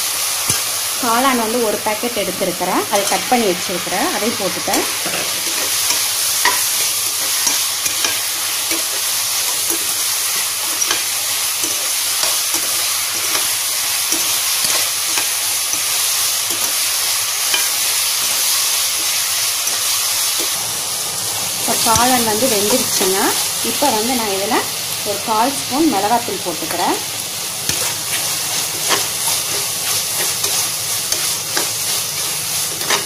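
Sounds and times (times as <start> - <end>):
mushrooms sizzling in a pot: 0.0 - 33.0.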